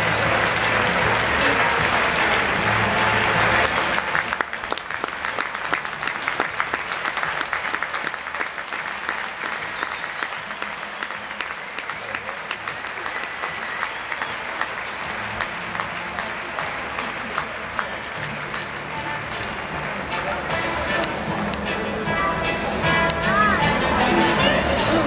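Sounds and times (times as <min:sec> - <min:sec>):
large audience applauding: 0:00.0 - 0:21.6.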